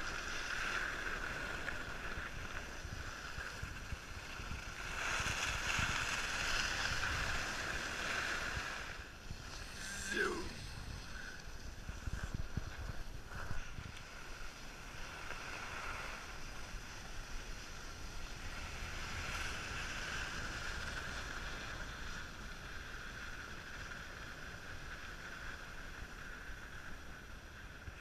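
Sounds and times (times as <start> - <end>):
skis sliding over snow: 0.0 - 28.0
wind rumbling on microphone: 0.0 - 28.0.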